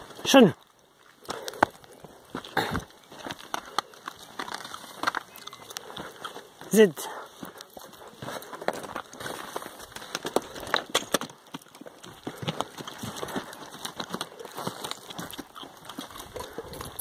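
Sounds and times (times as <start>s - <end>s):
hooves and footsteps on stony path: 0.0s - 17.0s.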